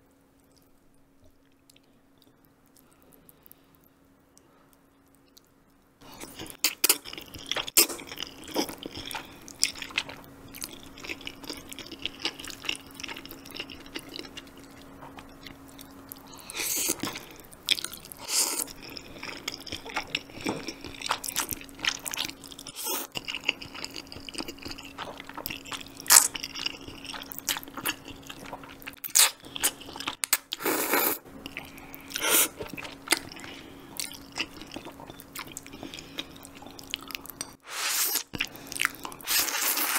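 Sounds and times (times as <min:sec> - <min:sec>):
wet chewing and mouth clicks: 0:05.0 - 0:37.4.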